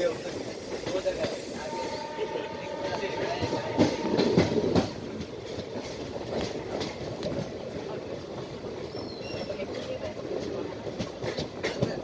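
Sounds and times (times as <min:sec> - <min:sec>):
train wheels clattering over rail joints: 0:00.0 - 0:02.0, 0:03.0 - 0:12.0.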